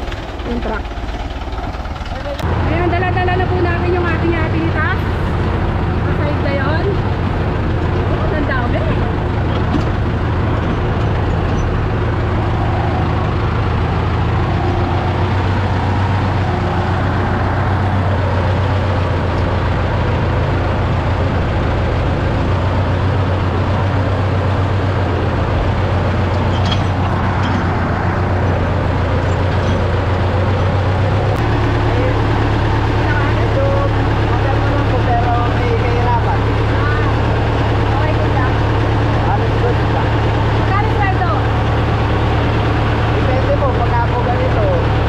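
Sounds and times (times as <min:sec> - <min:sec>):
vehicle engine droning: 0:00.0 - 0:45.0.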